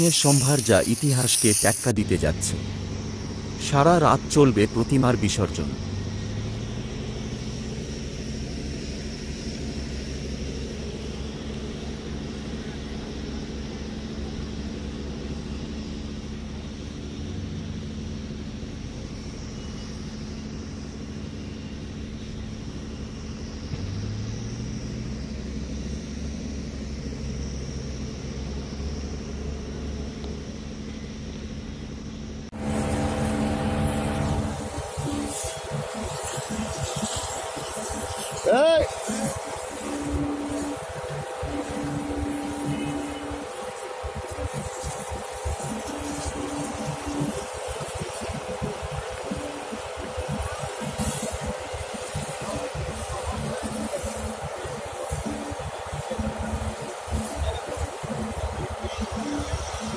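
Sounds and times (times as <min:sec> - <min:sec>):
diesel engine running: 0:00.0 - 0:59.9
louder hum with steady tones: 0:00.0 - 0:59.9.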